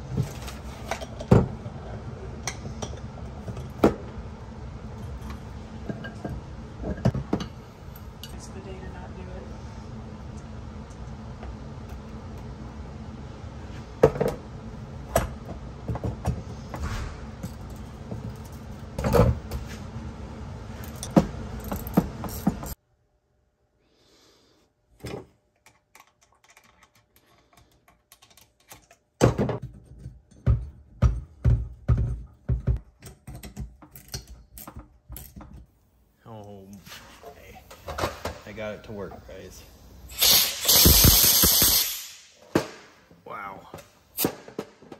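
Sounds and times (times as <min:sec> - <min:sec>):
steady background hum: 0:00.0 - 0:44.9.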